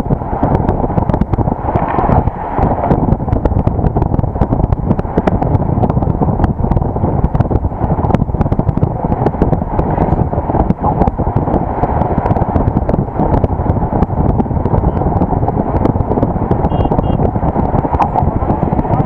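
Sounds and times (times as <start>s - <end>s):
vehicle driving rumble: 0.0s - 19.0s
wind buffeting microphone: 0.0s - 19.0s.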